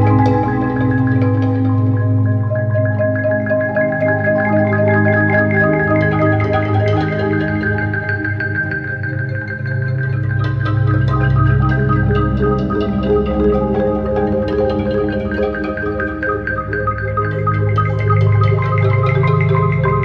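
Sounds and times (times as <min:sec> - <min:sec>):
marimba music: 0:00.0 - 0:20.0.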